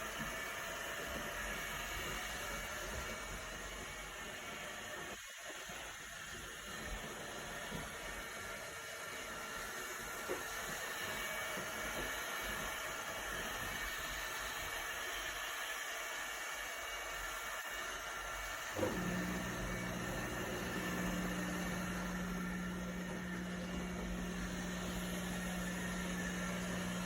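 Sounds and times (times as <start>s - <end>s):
robot vacuum hiss and whir: 0.0s - 27.0s.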